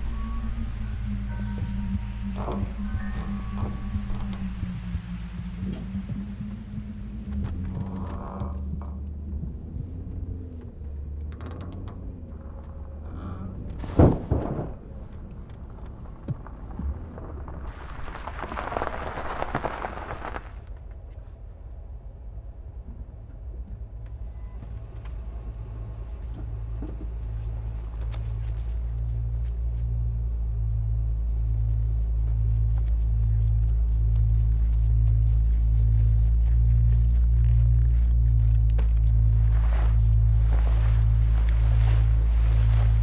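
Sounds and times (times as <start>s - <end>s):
low steady rumble: 0.0s - 43.0s.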